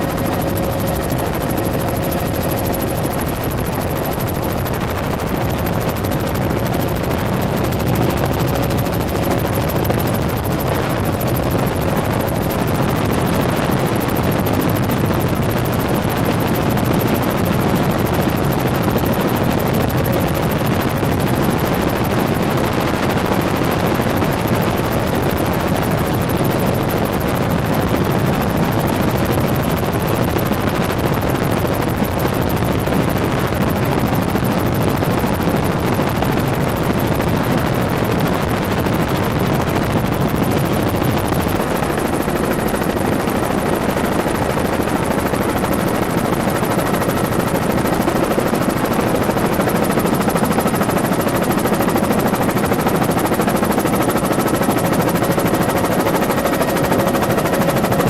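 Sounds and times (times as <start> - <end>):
helicopter engine and rotor noise: 0.0 - 58.0.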